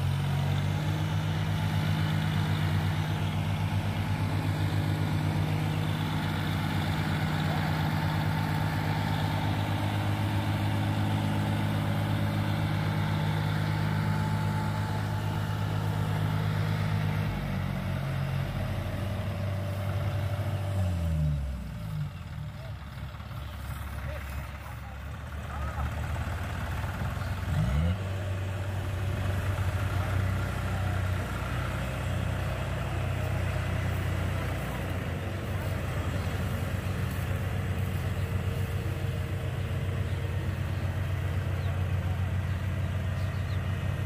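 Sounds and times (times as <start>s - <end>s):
diesel engines running under load: 0.0s - 44.0s.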